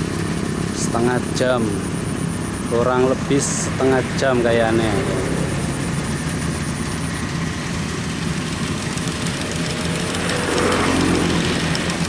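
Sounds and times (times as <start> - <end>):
combine harvester droning: 0.0 - 12.0
rushing rattling machinery: 0.0 - 12.0.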